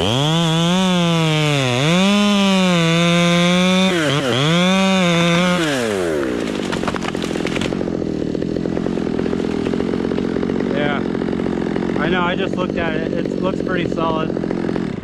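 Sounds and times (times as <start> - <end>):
chainsaw running and idling: 0.0 - 15.0.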